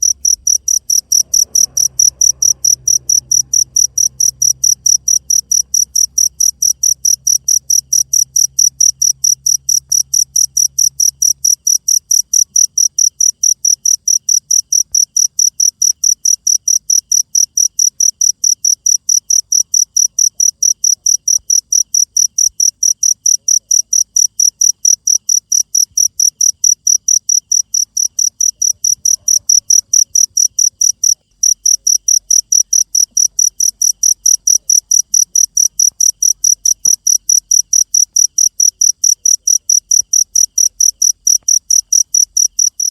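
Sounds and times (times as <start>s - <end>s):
cricket chirping: 0.0s - 42.9s.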